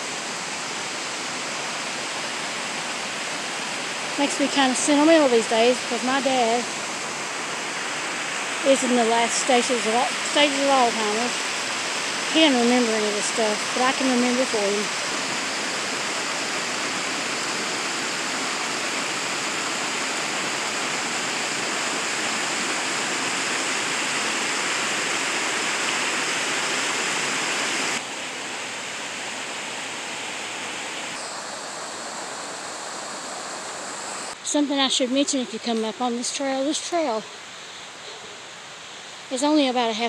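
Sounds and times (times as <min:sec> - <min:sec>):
creek rushing over rocks: 0:00.0 - 0:37.6.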